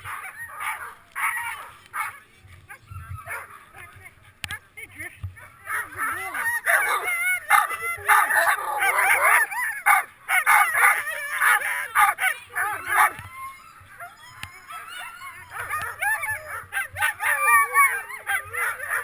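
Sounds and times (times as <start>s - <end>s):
sled dogs yelping and barking: 0.0s - 19.0s.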